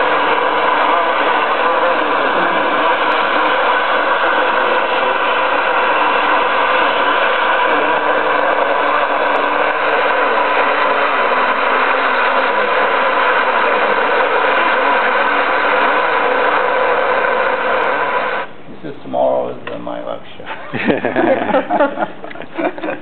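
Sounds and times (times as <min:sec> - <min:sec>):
radio feedback drone: 0:00.0 - 0:18.6.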